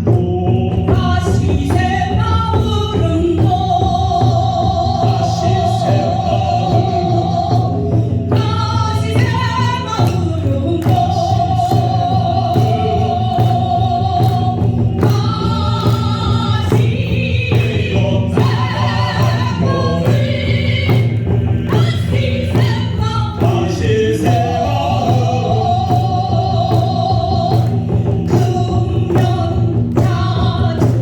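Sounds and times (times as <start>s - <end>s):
steady drum beat: 0.0s - 31.0s.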